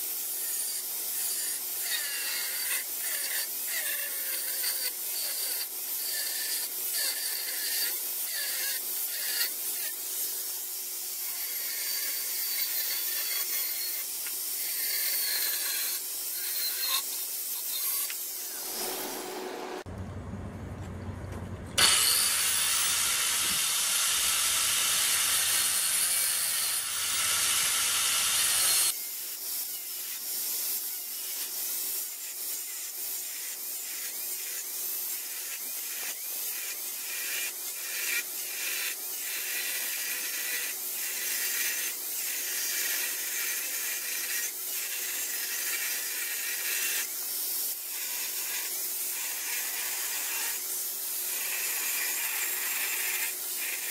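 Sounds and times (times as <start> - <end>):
angle grinder cutting steel: 0.0 - 19.9, 21.8 - 29.0, 29.6 - 53.9.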